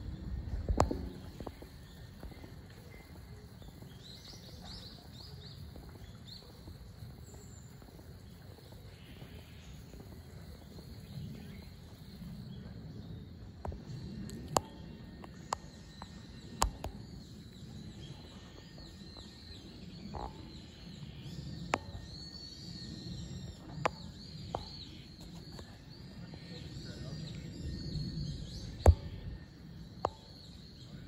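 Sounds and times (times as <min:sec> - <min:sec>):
low rumbling background: 0:00.0 - 0:31.0
small birds twittering: 0:00.0 - 0:31.0.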